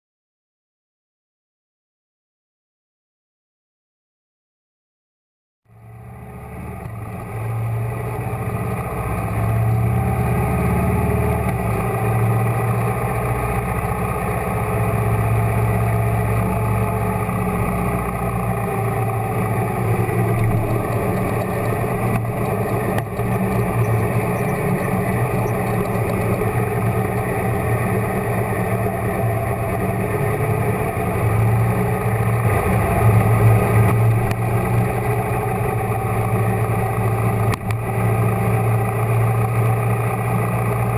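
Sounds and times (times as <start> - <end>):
motorcycle engine running: 5.7 - 40.9.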